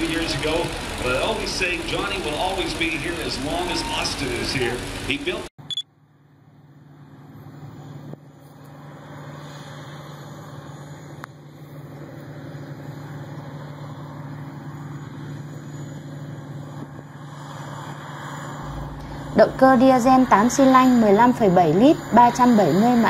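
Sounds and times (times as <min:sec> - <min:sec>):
tractor engine drone: 0:00.0 - 0:23.0.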